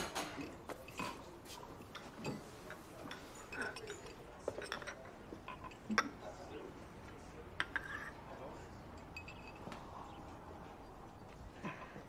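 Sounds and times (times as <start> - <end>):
cups and cutlery clinking: 0.0 - 10.2, 11.1 - 12.0.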